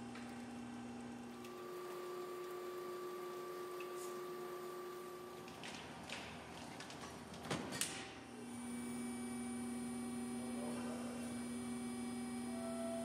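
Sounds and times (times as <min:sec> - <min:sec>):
machine hum: 0:00.0 - 0:07.0, 0:08.1 - 0:13.0.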